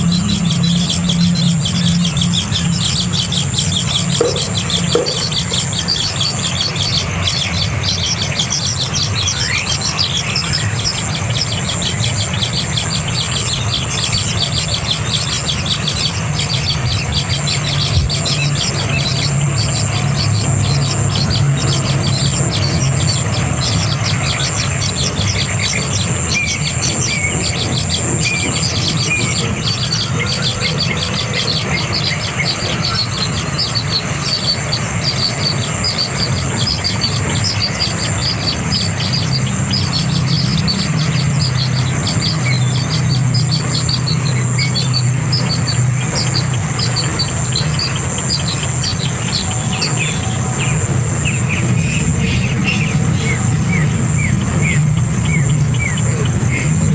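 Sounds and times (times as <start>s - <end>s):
birds chirping: 0.0s - 56.9s
steady low hum: 0.0s - 56.9s.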